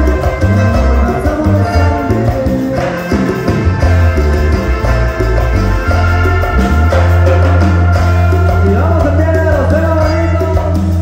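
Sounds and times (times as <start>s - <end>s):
latin dance-band music: 0.0s - 11.0s.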